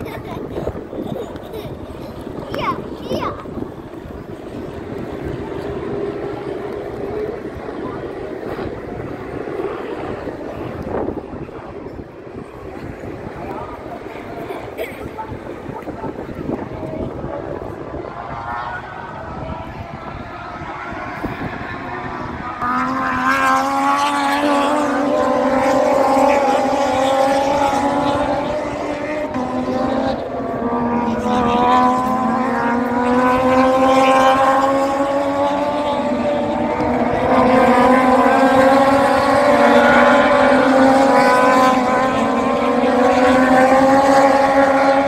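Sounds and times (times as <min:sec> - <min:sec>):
motorcycle engines at high revs: 0:00.0 - 0:45.0.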